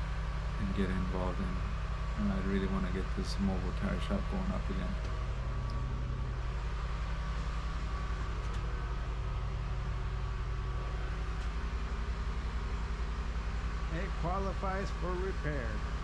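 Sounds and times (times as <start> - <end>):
motor humming with fast pulse: 0.0 - 16.0.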